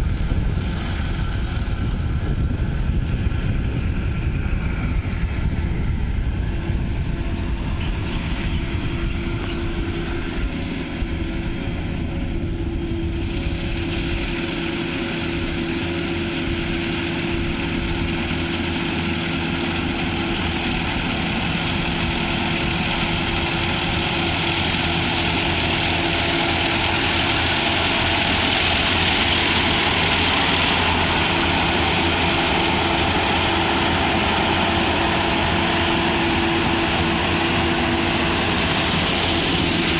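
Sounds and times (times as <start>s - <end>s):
harvesting machinery engine hum: 0.0s - 39.9s.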